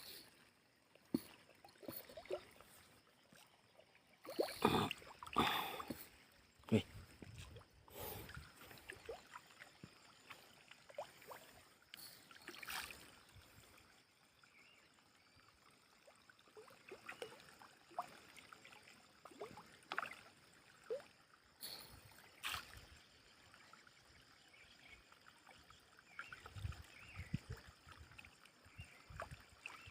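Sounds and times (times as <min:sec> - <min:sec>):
small water splashes: 0:00.0 - 0:29.9
water trickling: 0:00.0 - 0:29.9.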